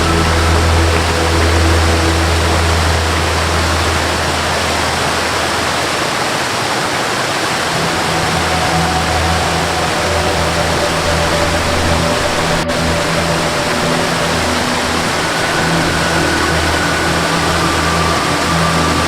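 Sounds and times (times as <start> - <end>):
soft melody: 0.0 - 6.1, 7.7 - 19.0
waterfall rushing: 0.0 - 19.0.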